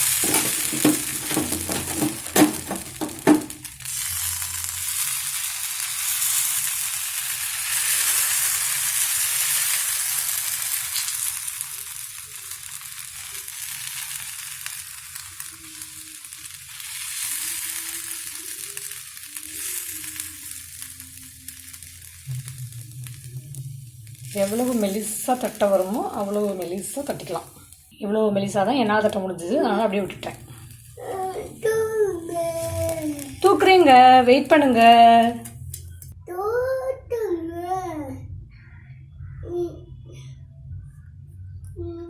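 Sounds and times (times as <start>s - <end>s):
dough sizzling in oil: 0.0s - 35.7s.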